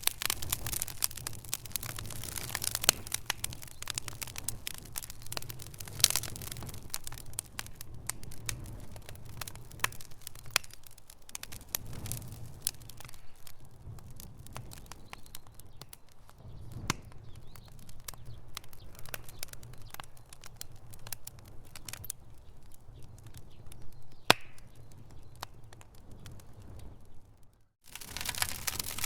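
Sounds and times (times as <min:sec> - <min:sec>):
low rumble of fire: 0:00.0 - 0:29.0
wood crackling and popping: 0:00.0 - 0:29.0.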